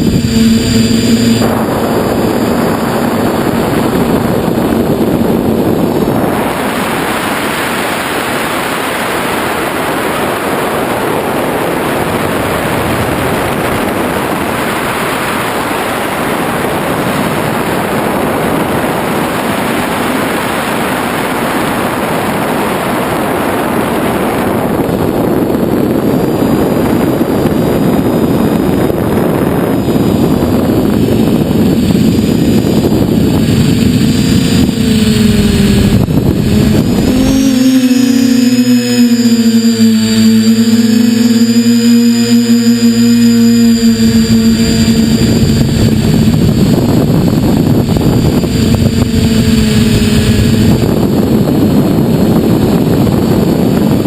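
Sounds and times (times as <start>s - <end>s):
drone propellers humming: 0.0s - 54.0s
wind rush on microphone: 0.0s - 54.0s.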